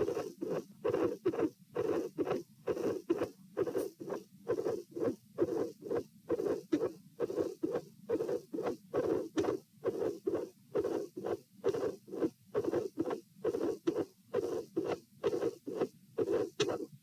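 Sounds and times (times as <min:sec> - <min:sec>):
heartbeat: 0:00.0 - 0:16.8.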